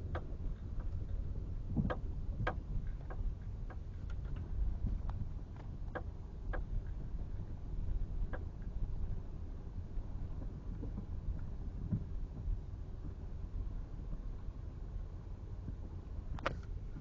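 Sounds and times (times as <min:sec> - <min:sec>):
vehicle rumble from inside cab: 0:00.0 - 0:17.0.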